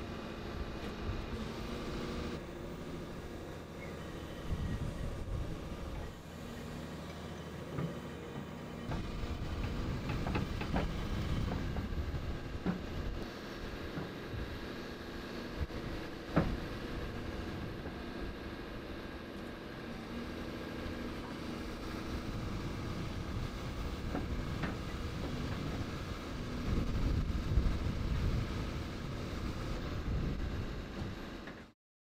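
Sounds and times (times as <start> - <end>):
excavator diesel engine running: 0.0 - 31.7
hydraulics whining: 0.0 - 31.7.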